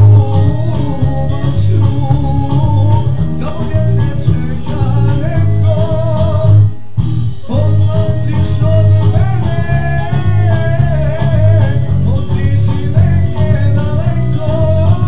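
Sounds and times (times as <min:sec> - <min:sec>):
bass and drum accompaniment: 0:00.0 - 0:15.0
wavering keyboard lead melody: 0:00.0 - 0:15.0.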